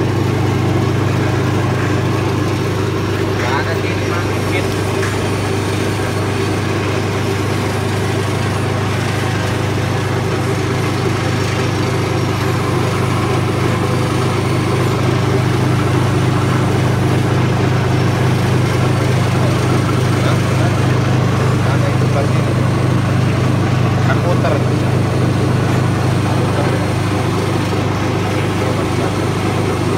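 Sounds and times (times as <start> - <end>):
vibrating sieve motor hum: 0.0 - 29.9.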